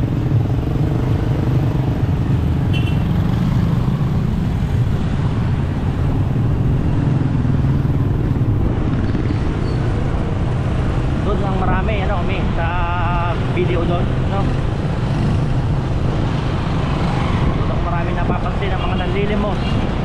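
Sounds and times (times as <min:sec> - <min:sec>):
road and wind rush: 0:00.0 - 0:20.0.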